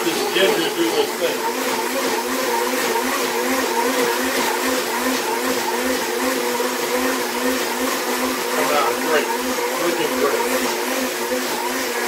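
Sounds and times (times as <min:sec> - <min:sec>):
blender running: 0:00.0 - 0:12.0.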